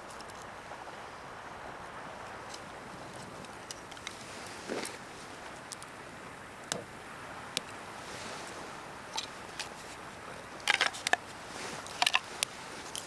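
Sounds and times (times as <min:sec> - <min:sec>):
ocean waves: 0:00.0 - 0:13.0.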